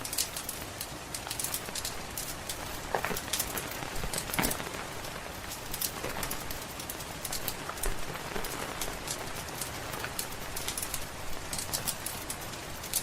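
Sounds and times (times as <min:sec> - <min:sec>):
rain hissing: 0:00.0 - 0:13.0
wood fire crackling: 0:00.0 - 0:13.0.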